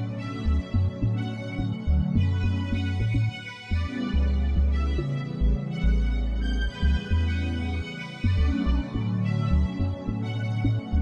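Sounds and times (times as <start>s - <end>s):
ambient techno music: 0.0s - 11.0s.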